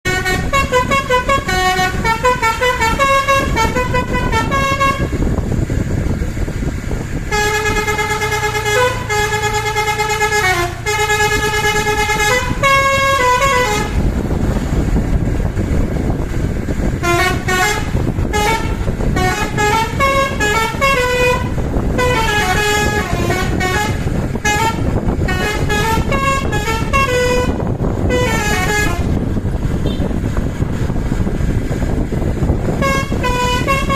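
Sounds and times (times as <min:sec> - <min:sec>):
bus air horn playing melody: 0:00.0 - 0:05.6, 0:07.1 - 0:30.9, 0:31.7 - 0:33.9
steady loud rumble: 0:00.0 - 0:33.9.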